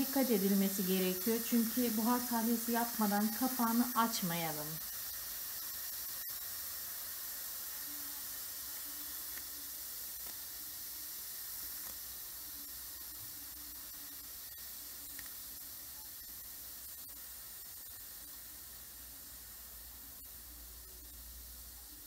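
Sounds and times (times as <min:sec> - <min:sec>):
steam hissing from pressure cooker: 0:00.0 - 0:22.0.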